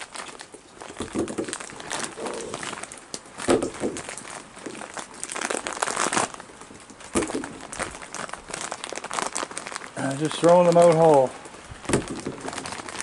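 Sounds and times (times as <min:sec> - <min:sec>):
plastic package crinkling: 0:00.0 - 0:13.0.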